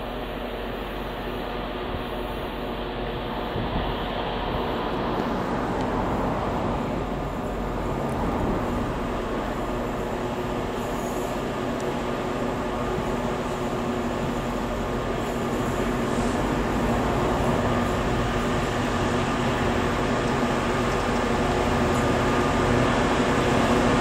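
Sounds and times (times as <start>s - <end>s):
diesel locomotive engine droning: 0.0s - 24.0s
wheel and rail noise: 0.0s - 24.0s.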